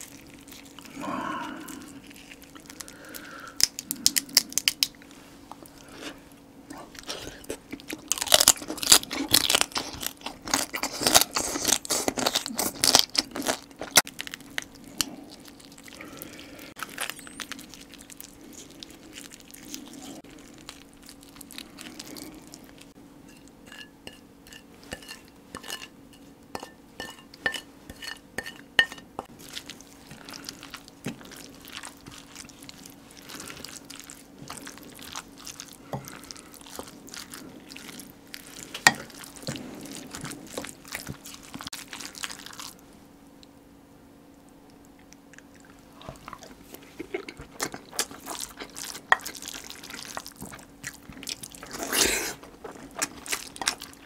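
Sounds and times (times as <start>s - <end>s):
crunching and chewing: 0.0s - 25.9s, 26.6s - 43.5s, 44.3s - 54.0s.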